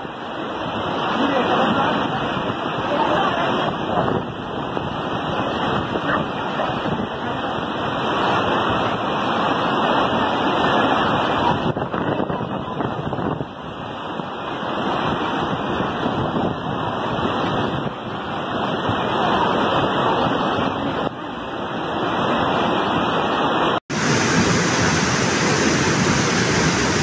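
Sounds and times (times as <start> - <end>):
river rushing: 0.0 - 27.0.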